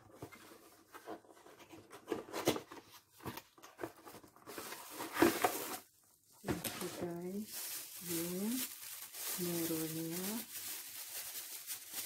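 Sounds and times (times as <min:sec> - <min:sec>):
packaging rustling: 0:00.1 - 0:12.0.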